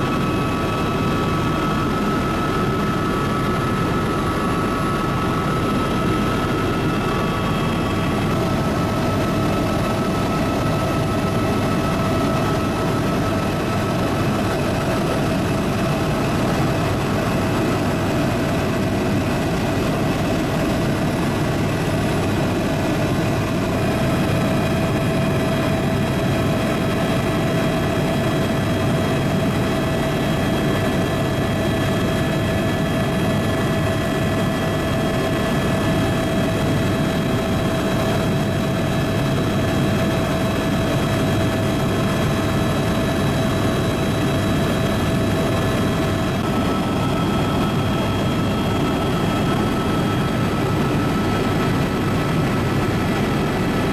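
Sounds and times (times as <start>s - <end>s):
helicopter engine and rotor drone: 0.0s - 53.9s
steady whine: 0.0s - 53.9s.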